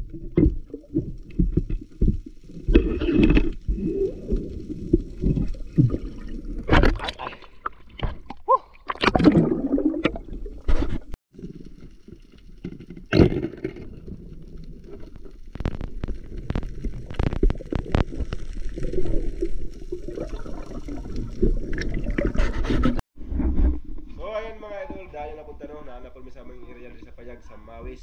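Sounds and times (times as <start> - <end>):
water sloshing underwater: 0.0 - 24.1.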